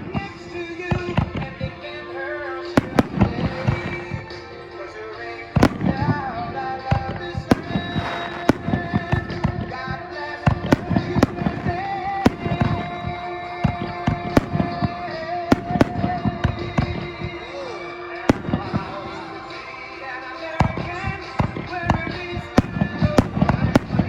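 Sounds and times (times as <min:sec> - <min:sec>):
fireworks bangs and crackles: 0:00.0 - 0:24.0
music with long held notes: 0:00.0 - 0:24.0.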